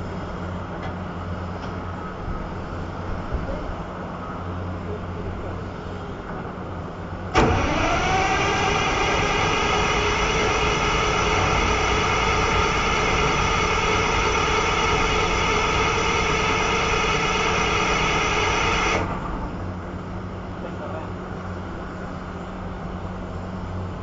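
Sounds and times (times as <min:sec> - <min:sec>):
excavator diesel engine running: 0:00.0 - 0:24.0
high-pitched engine whine: 0:00.0 - 0:24.0.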